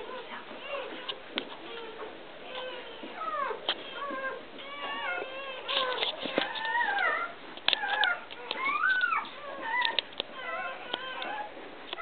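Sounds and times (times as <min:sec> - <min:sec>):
puppies squealing: 0:00.0 - 0:12.0.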